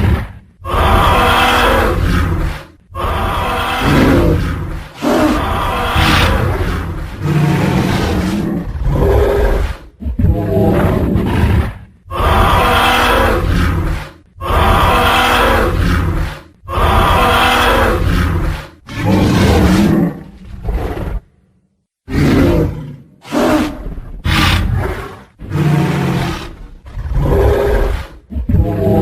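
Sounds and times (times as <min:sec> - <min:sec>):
dinosaur roars: 0:00.0 - 0:21.3, 0:22.1 - 0:29.0.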